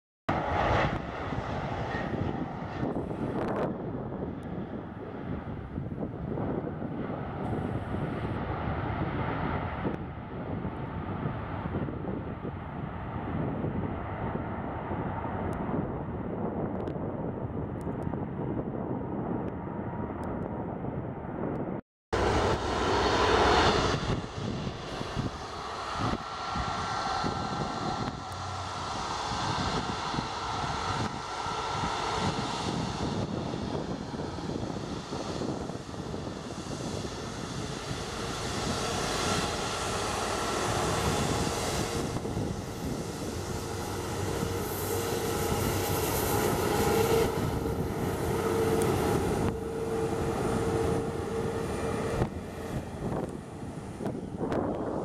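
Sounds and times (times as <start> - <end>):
jet engines whining: 0.3 - 15.8, 22.2 - 55.0
jet engines rumbling: 0.3 - 55.0.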